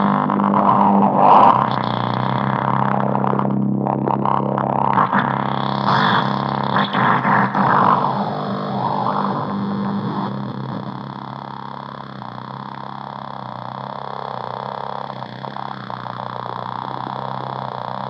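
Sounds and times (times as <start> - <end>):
electronic drone: 0.0 - 18.0.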